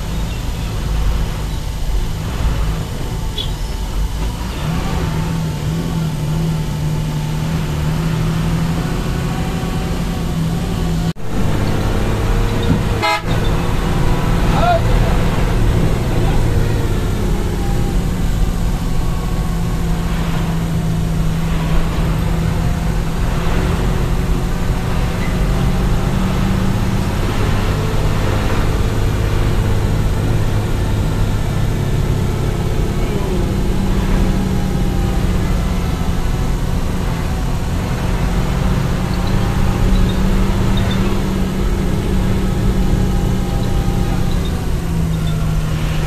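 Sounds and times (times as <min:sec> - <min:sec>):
coach engine drone and road noise: 0:00.0 - 0:46.0.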